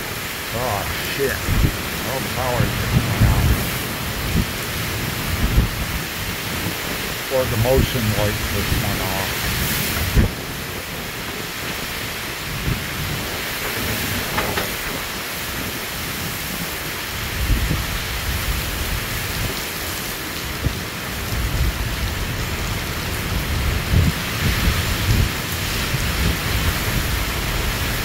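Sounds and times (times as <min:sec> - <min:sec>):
torrential rain pouring: 0:00.0 - 0:28.0
wind gusts on microphone: 0:00.0 - 0:28.0.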